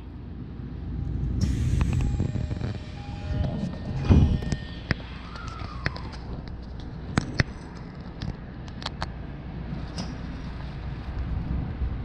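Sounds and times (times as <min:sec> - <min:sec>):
train running gear rumbling: 0:00.0 - 0:12.0.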